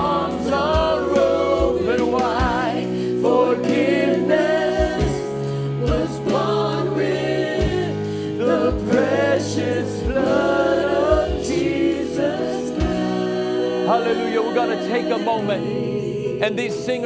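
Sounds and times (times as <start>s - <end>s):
women singing: 0.0s - 16.5s
keyboard: 0.0s - 17.0s.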